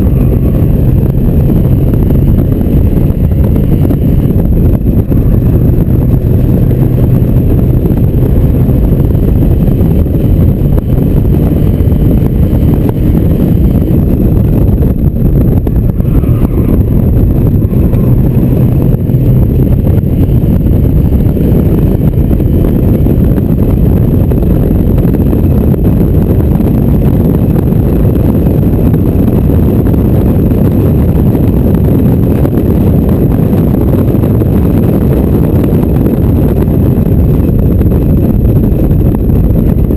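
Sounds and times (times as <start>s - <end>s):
car engine: 0.0s - 39.9s
road noise: 0.0s - 39.9s
wind buffeting microphone: 0.0s - 39.9s.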